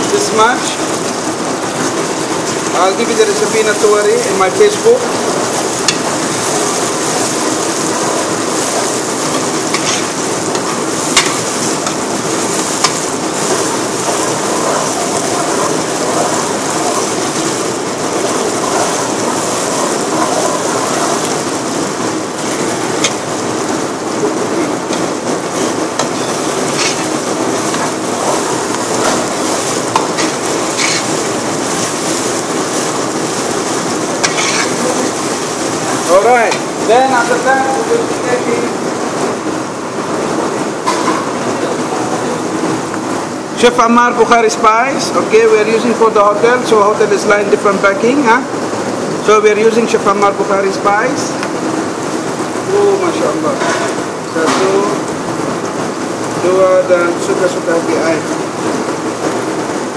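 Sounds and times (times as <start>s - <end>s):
food sizzling in a pot: 0.0s - 59.9s.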